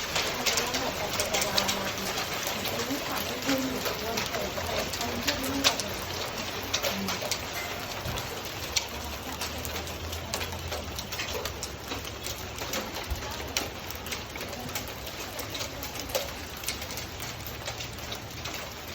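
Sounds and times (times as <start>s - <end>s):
hailstones ticking on hard surfaces: 0.0s - 18.9s
hiss of falling rain: 0.0s - 18.9s.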